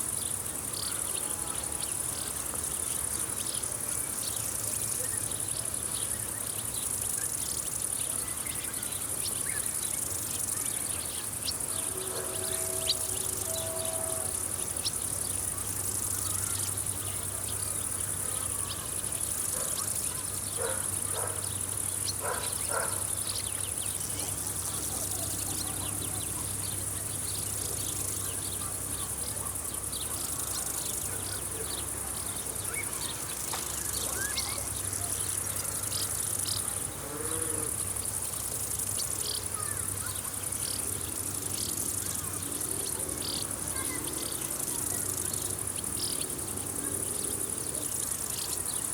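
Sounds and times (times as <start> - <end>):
insects chirring: 0.0 - 48.9
scattered insect chirps: 0.0 - 48.9.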